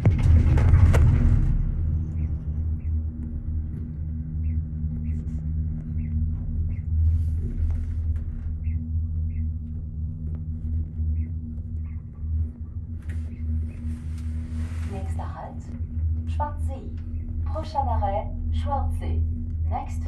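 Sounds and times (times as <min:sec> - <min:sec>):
gondola cabin rumbling and humming: 0:00.0 - 0:20.0.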